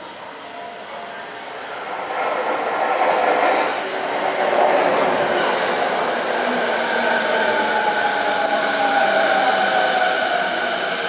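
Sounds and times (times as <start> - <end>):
train wheel and rail noise: 0.0 - 11.0.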